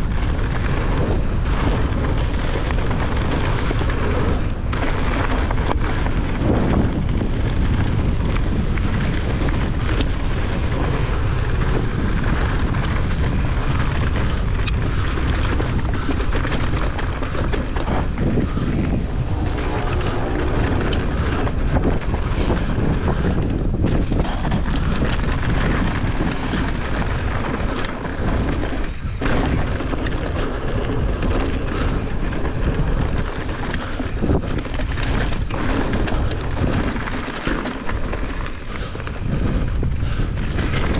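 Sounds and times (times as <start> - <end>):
bike rattling over stones: 0.0 - 40.9
wind buffeting microphone: 0.0 - 40.9
tyres crunching over gravel: 0.3 - 40.9.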